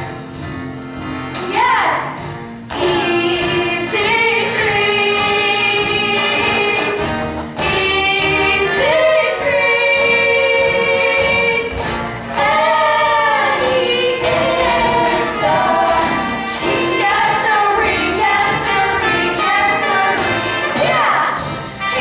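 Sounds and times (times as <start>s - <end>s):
group singing over accompaniment: 2.7s - 22.0s.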